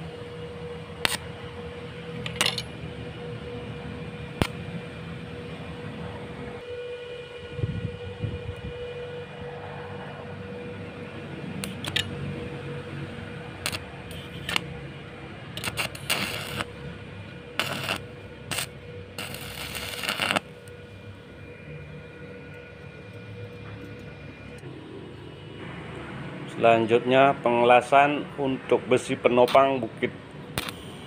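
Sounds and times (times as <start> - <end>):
electrical hum: 0.0 - 28.8.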